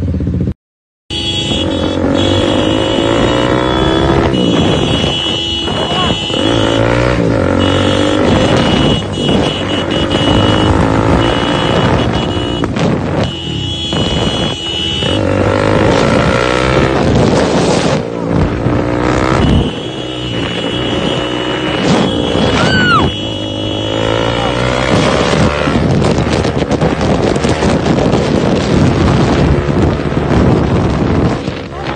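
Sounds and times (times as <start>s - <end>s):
motorcycle engine: 0.0s - 0.5s, 1.1s - 31.9s
wind buffeting microphone: 1.4s - 31.9s.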